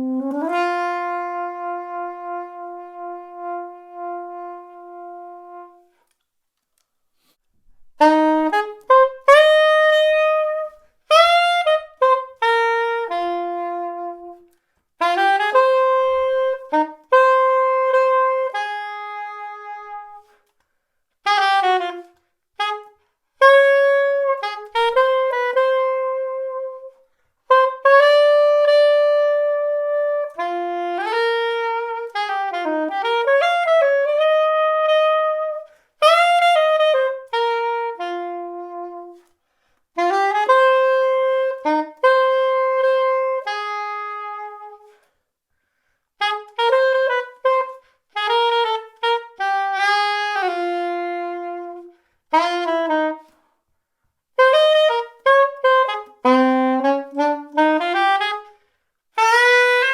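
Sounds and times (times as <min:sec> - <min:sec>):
soprano saxophone jazz melody: 0:00.0 - 0:06.2, 0:06.8 - 0:59.9.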